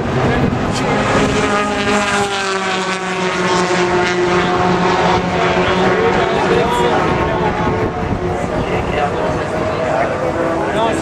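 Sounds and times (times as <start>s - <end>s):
racing car engines at full throttle: 0.0s - 11.0s.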